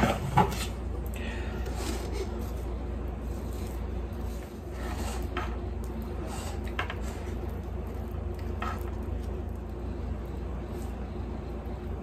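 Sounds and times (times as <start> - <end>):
steady low hum: 0.0 - 12.0
knife spreading frosting: 1.6 - 11.6.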